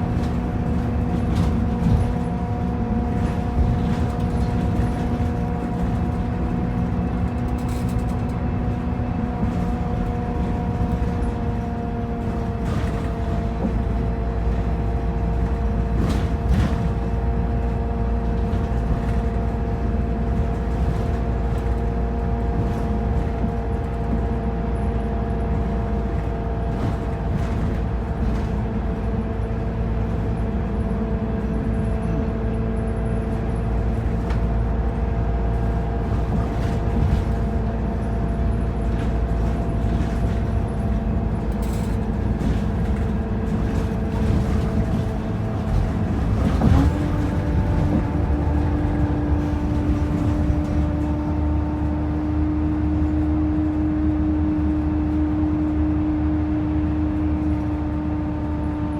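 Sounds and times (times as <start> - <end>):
bus engine low rumble: 0.0 - 58.9.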